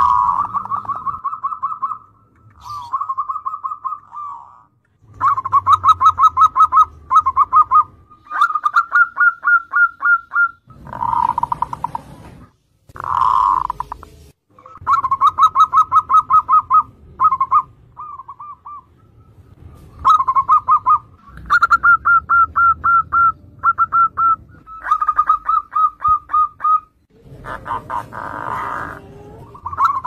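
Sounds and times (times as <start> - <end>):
dove cooing rapidly: 0.0 - 12.1, 13.0 - 14.0, 14.6 - 19.0, 20.0 - 30.0.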